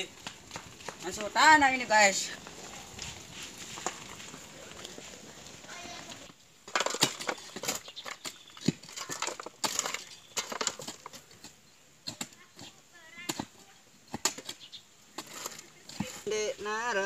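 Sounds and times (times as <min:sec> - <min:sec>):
hoes and shovels striking stony soil: 0:00.0 - 0:17.0.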